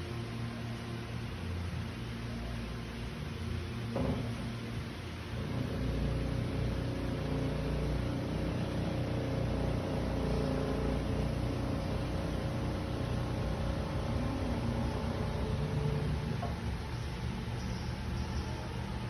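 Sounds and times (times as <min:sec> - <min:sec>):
car mechanical rumble and hum: 0:03.4 - 0:19.0.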